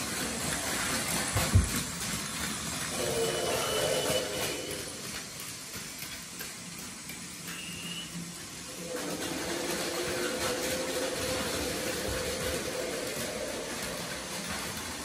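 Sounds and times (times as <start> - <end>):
toy train wheels hissing: 0.0 - 15.0.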